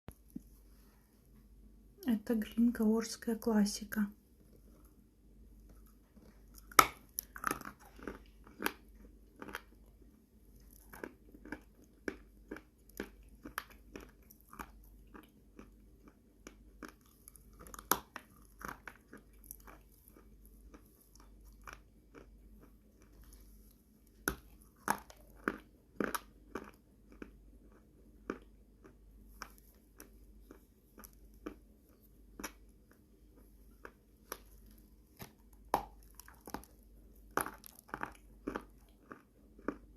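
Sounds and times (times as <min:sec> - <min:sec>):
crisp chewing crunches: 0:05.6 - 0:39.9.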